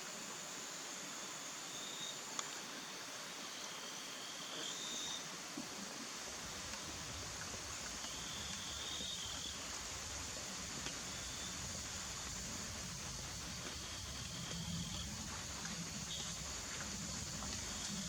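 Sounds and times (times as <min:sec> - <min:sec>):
steady hiss: 0:00.0 - 0:18.0
insects trilling: 0:00.1 - 0:18.0.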